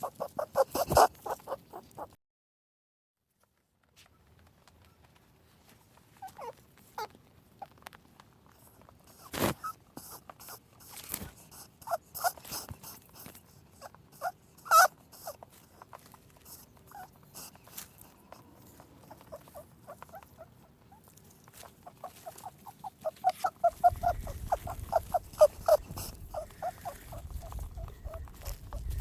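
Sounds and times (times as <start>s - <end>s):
rustling: 0.0s - 2.1s, 3.3s - 29.0s
small animals squeaking: 0.0s - 2.2s, 6.1s - 7.7s, 9.1s - 29.0s.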